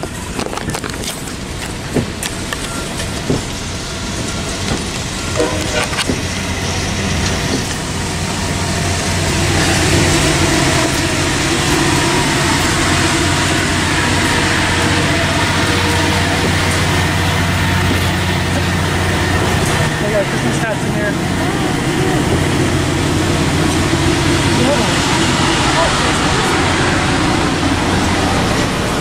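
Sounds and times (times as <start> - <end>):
low hum: 0.0 - 29.0
passenger train rumbling: 0.0 - 29.0.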